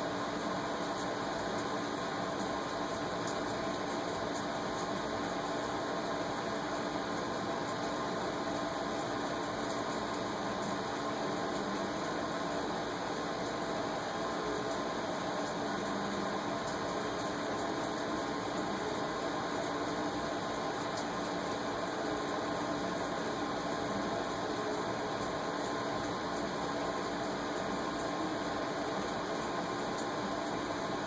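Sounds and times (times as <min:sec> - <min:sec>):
indoor hum and hiss: 0:00.0 - 0:31.0.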